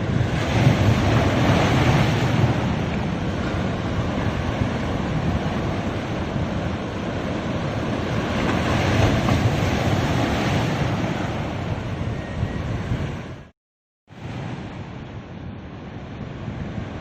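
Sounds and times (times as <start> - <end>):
ocean waves breaking on beach: 0.0 - 13.5, 14.1 - 17.0.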